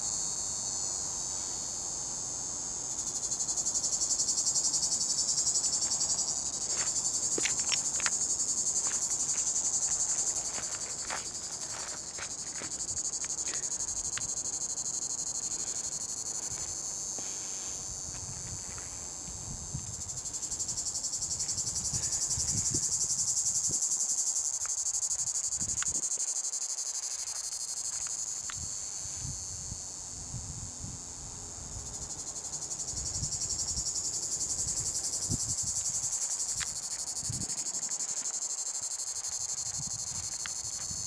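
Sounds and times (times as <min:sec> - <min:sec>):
cicada buzzing: 0:00.0 - 0:41.0.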